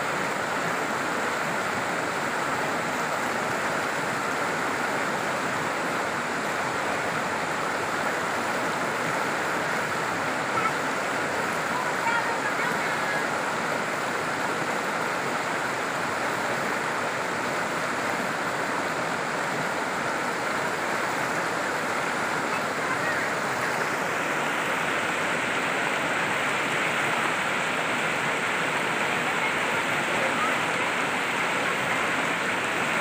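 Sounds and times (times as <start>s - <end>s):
river rushing over rocks: 0.0s - 33.0s.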